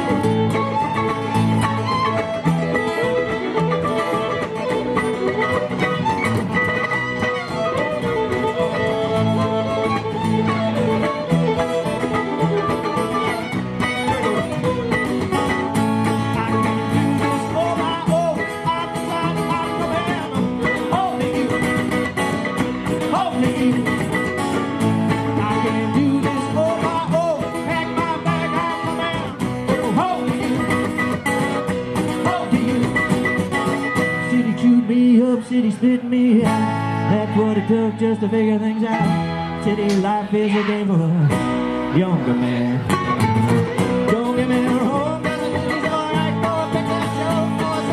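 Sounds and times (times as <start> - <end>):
guitar melody bending: 0.0 - 47.9
live country band playing: 0.0 - 47.9.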